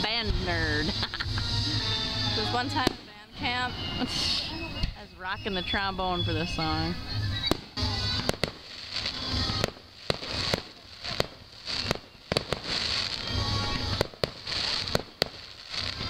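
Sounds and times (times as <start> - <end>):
fireworks bangs: 0.0 - 16.0
fireworks crackling: 0.0 - 16.0
music playing: 0.0 - 16.0.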